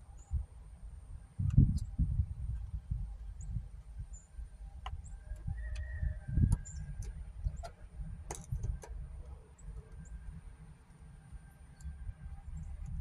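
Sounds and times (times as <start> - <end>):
steady low rumble: 0.0 - 5.6, 6.2 - 13.0.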